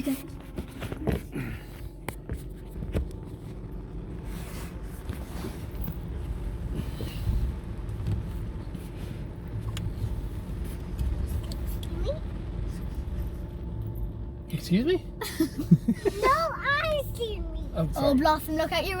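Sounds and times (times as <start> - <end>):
car cabin rumble: 0.0 - 19.0.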